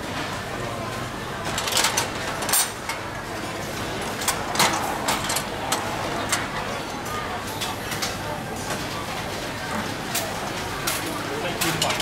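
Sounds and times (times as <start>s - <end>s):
steady machine background noise: 0.0s - 12.0s.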